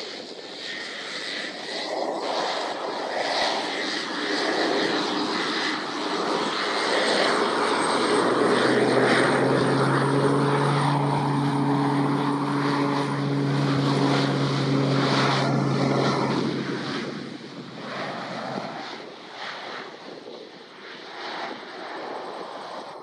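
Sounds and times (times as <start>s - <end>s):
turboprop propeller drone: 0.0s - 23.0s.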